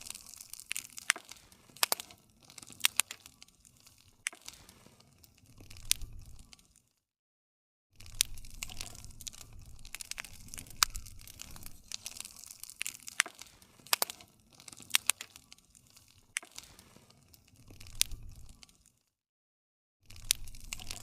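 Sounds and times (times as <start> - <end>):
wood fire crackling: 0.0 - 6.9, 8.0 - 19.0, 20.1 - 21.0.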